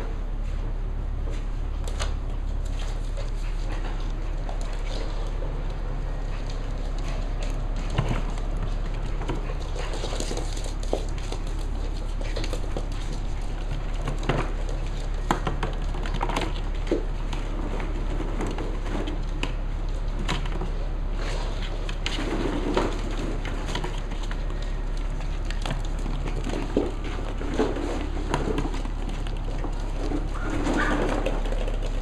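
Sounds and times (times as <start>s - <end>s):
steady low hum: 0.0s - 32.0s
puppies scrambling in cardboard tube: 1.3s - 32.0s.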